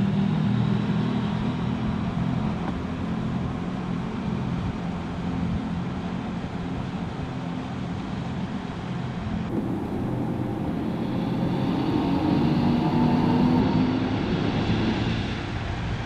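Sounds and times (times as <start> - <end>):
road noise: 0.0 - 16.0
car engine hum: 1.4 - 15.8.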